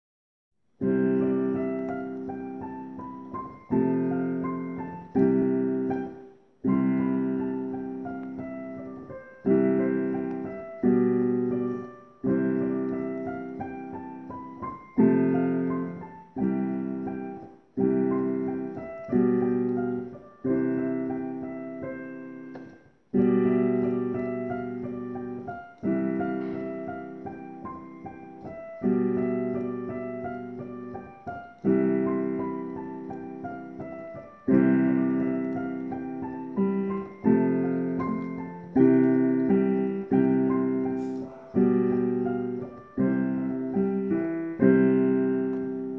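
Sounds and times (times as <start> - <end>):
slow piano chords: 0.8 - 45.9.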